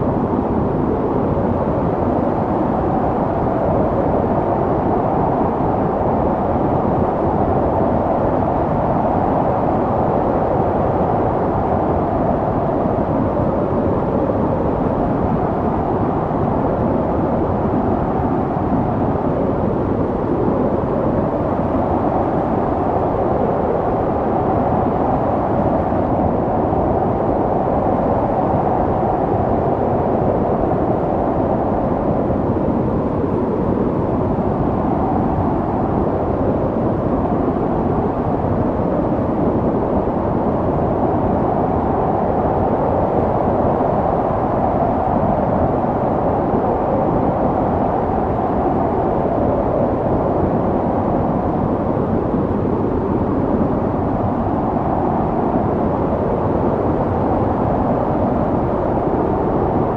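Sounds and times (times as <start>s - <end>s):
snowstorm wind rushing: 0.0s - 59.9s.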